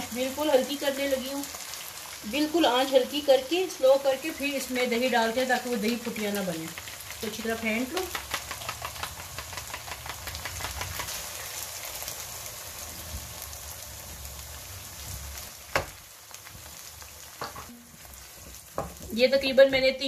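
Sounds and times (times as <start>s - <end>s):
chicken and onions sizzling in oil: 0.0s - 20.0s.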